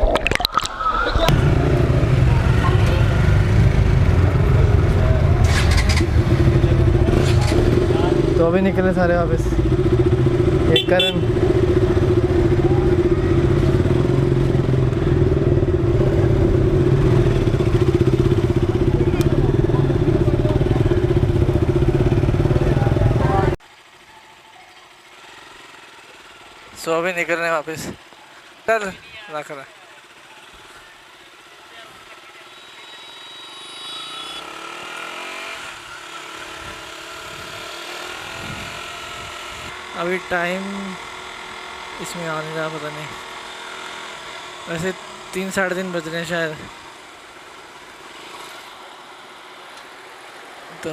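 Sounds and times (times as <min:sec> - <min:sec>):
motorcycle engine idling: 0:01.3 - 0:33.6, 0:35.7 - 0:45.9.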